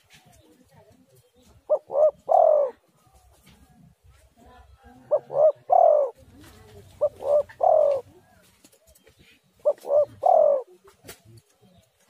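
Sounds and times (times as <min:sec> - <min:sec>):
dove cooing: 0:00.0 - 0:03.9, 0:04.5 - 0:11.8.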